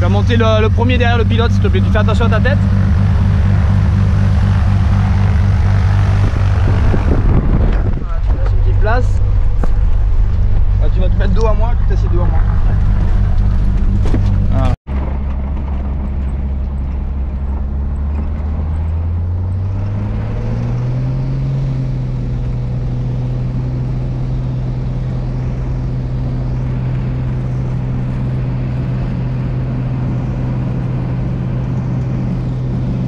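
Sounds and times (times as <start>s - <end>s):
propeller plane engine: 0.0s - 33.0s.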